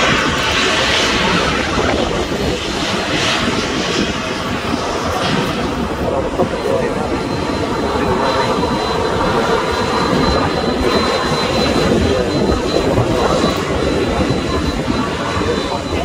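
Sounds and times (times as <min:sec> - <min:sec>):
high jet engine whine: 0:00.0 - 0:16.0
jet engines rushing: 0:00.0 - 0:16.0.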